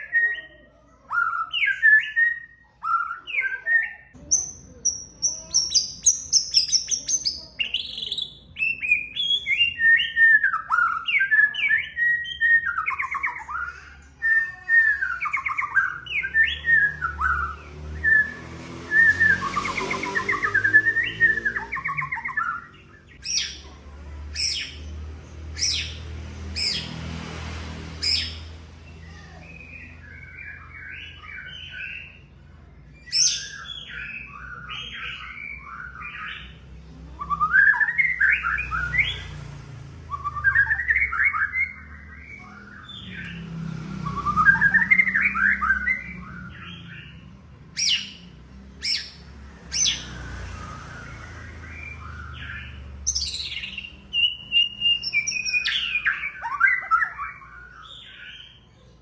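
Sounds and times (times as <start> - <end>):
bird singing sharp notes and warbles: 0.0 - 59.0.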